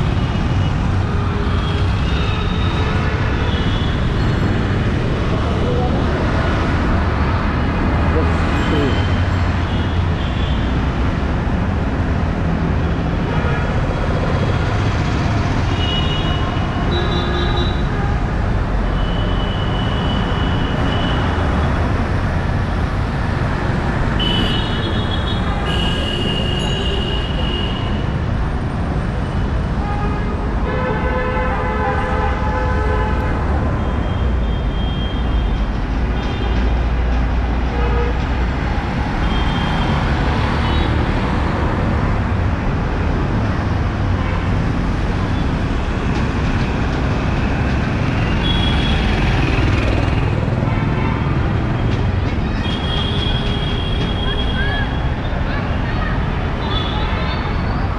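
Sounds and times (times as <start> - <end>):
traffic rumble: 0.0 - 57.9.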